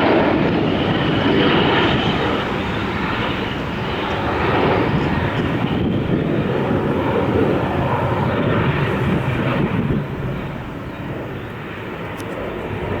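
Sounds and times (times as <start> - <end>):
jet roaring overhead: 0.0 - 13.0.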